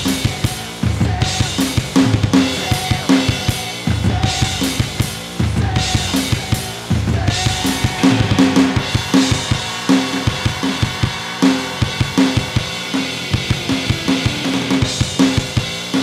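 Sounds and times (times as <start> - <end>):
electronic drum kit rock beat: 0.0 - 16.0
recorded rock song: 0.0 - 16.0.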